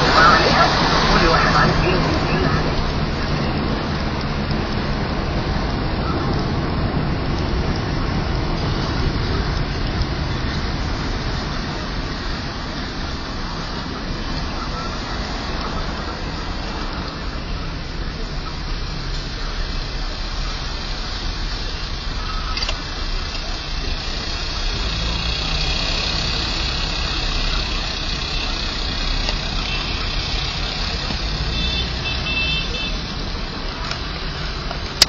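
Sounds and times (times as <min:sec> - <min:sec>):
street traffic noise: 0:00.0 - 0:35.0.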